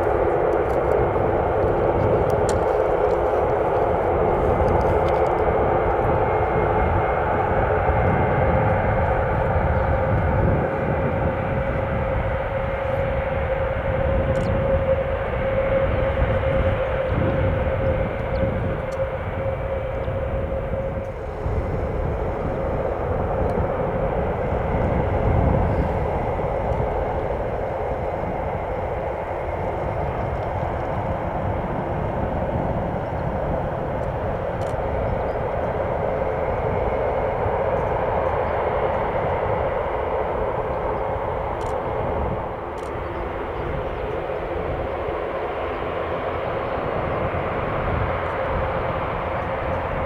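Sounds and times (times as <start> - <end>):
turboprop engines running: 0.0 - 50.0.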